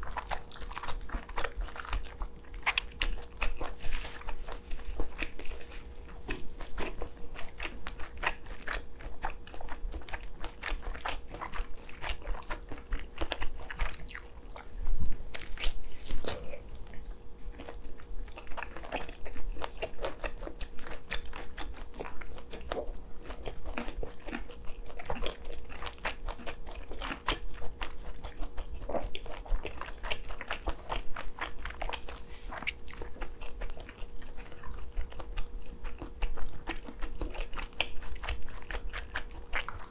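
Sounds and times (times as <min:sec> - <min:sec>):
chewing with mouth clicks: 0:00.0 - 0:39.9.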